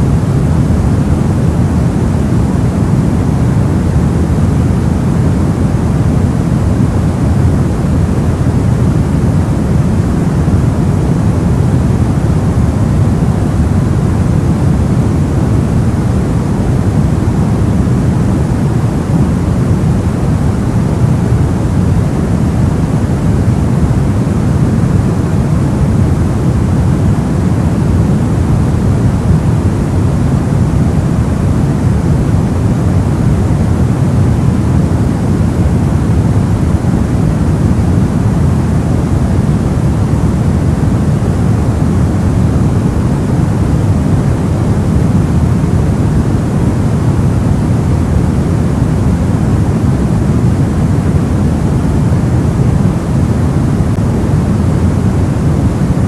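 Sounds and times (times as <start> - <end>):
low white noise hiss: 0.0 - 56.0.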